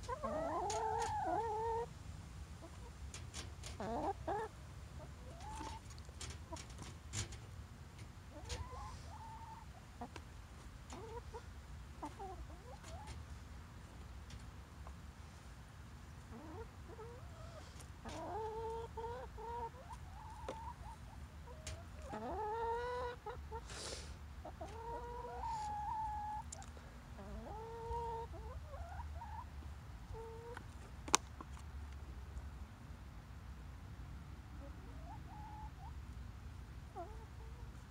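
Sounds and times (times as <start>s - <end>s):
hens clucking: 0.0s - 1.9s, 2.6s - 15.0s, 16.2s - 31.6s, 34.6s - 36.0s, 36.9s - 37.9s.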